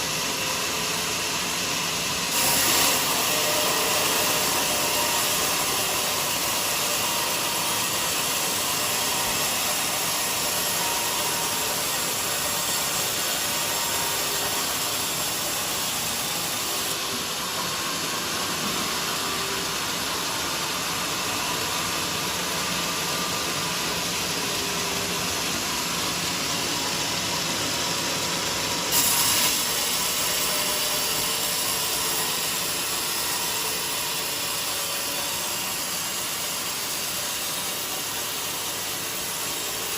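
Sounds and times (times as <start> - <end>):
band sawmill cutting wood: 0.0 - 39.9.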